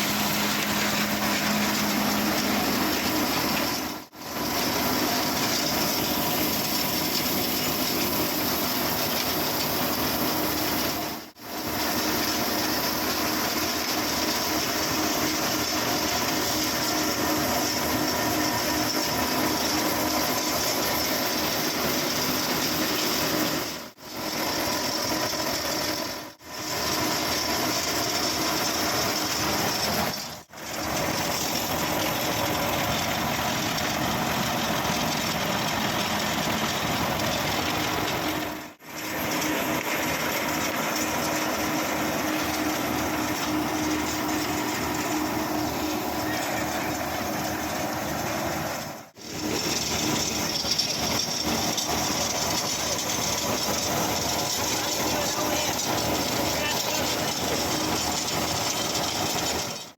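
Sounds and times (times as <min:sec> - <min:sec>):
threshing machine din: 0:00.0 - 0:59.9
tractor engine running under load: 0:00.0 - 0:59.9.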